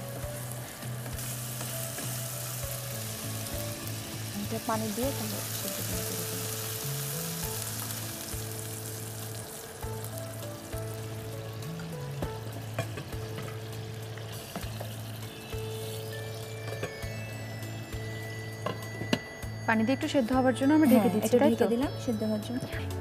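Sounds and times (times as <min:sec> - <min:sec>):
food sizzling in pan: 0:00.0 - 0:23.0
soft background music: 0:00.0 - 0:23.0.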